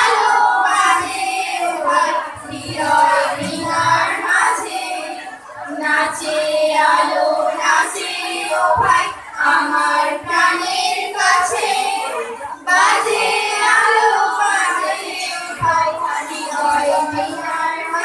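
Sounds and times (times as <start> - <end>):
girls singing into microphones: 0.0 - 18.0.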